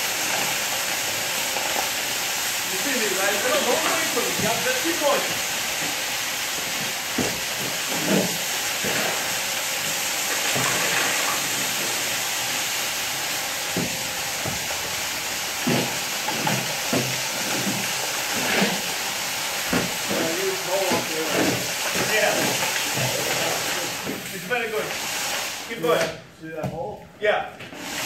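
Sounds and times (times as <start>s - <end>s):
power trowel hissing: 0.0s - 26.0s, 27.7s - 28.0s.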